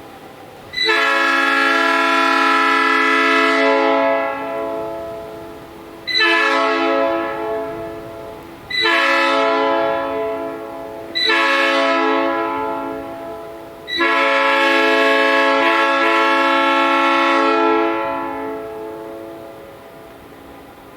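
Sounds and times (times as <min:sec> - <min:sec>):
air horn blasts: 0:00.8 - 0:19.6.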